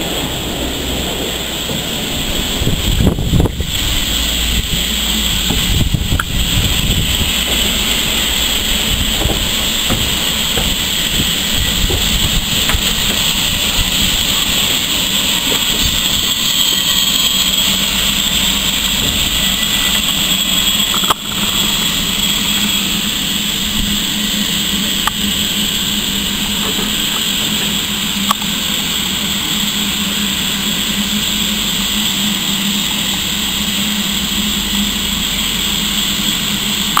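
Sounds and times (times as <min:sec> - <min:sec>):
low steady drone: 0:00.0 - 0:37.0
steam hissing: 0:00.0 - 0:37.0.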